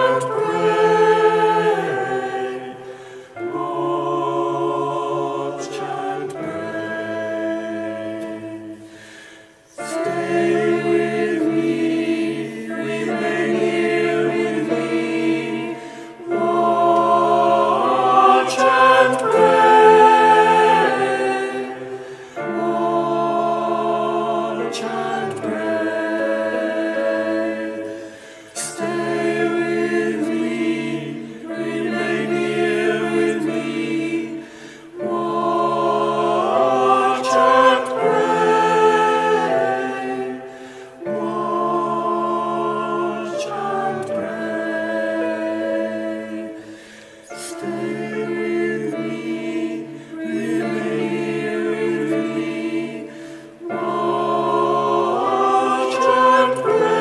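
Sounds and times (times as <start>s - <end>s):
choir singing a chant: 0.0s - 57.0s.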